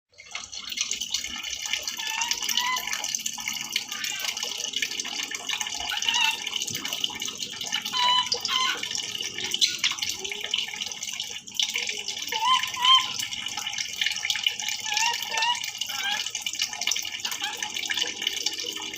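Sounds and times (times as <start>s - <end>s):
tap water running into a sink: 0.1s - 18.9s.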